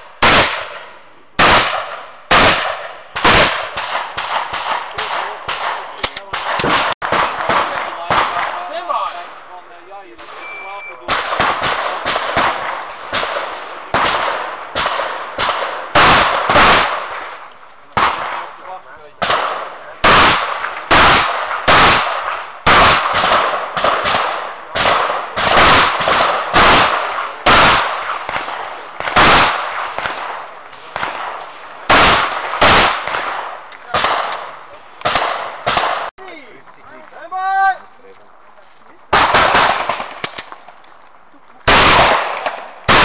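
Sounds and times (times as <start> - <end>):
shotgun shots with echo: 0.2 - 9.4, 10.2 - 36.1, 39.1 - 40.6, 41.7 - 43.0.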